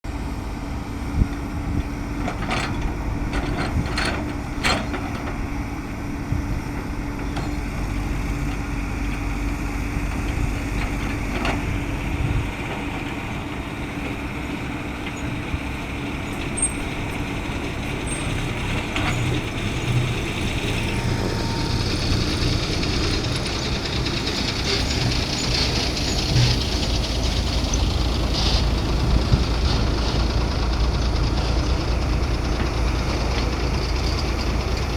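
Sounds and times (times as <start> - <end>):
heavy diesel engine drone: 0.0 - 34.9.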